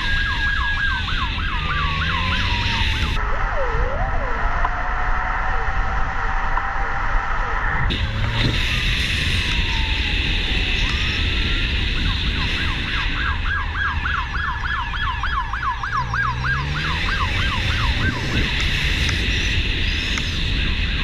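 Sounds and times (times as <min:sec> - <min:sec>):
siren yelping: 0:00.0 - 0:19.9
low rumble of engine and wind: 0:00.0 - 0:21.0.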